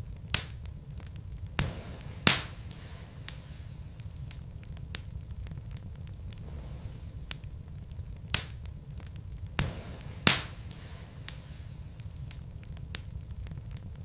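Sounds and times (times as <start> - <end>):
flames rumbling: 0.0 - 14.0
logs crackling and popping: 0.0 - 14.0.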